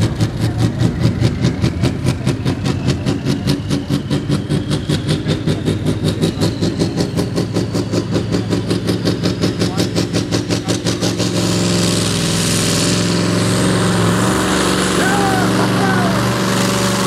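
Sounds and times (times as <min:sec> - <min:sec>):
diesel engine running under load: 0:00.0 - 0:17.0
rising engine whine: 0:00.0 - 0:17.0.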